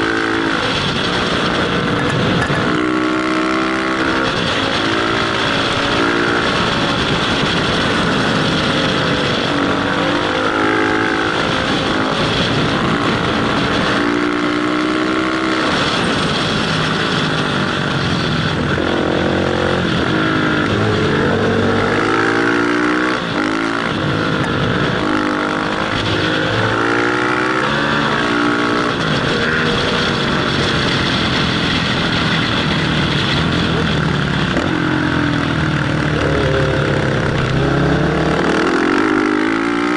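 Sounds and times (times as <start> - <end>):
motorcycle engine revving: 0.0 - 39.9
wind rushing on helmet: 0.0 - 39.9.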